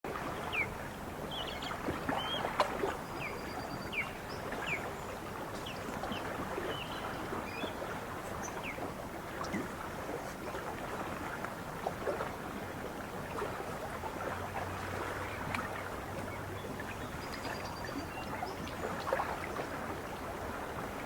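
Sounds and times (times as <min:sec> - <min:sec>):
lake water lapping: 0:00.1 - 0:21.0.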